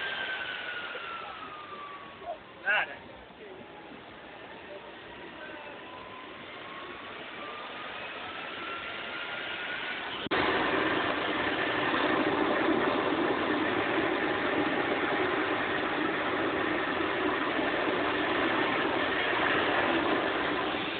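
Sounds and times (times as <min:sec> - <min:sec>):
jet turbine engine whine: 0:00.0 - 0:20.9.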